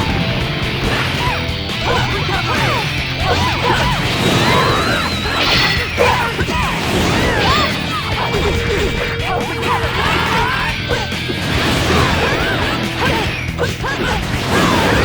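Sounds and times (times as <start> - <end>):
soundtrack music: 0.0 - 15.0.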